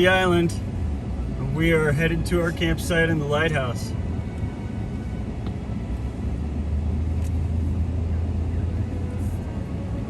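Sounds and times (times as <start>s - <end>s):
truck engine and tyres rumbling: 0.0s - 10.0s.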